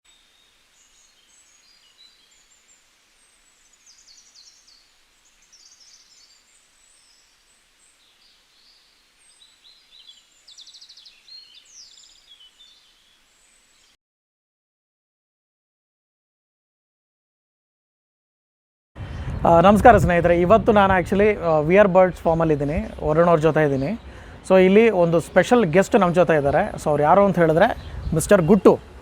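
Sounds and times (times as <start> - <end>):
small birds chirping: 0.1 - 14.0, 19.0 - 29.0.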